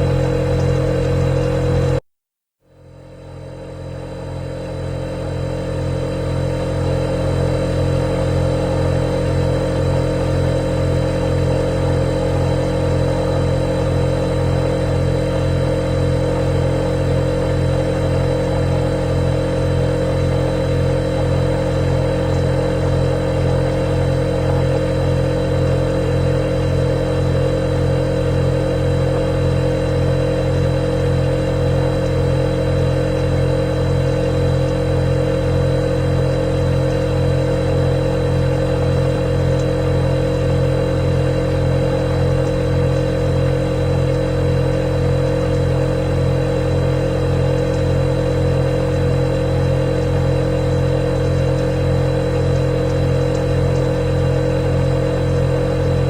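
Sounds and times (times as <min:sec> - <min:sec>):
refrigerator motor hum: 0:00.0 - 0:02.0, 0:02.7 - 0:56.0.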